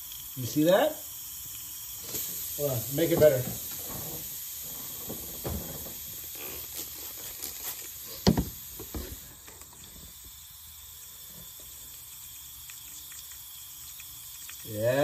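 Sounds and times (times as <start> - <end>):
compressed air hissing: 0.0 - 15.0.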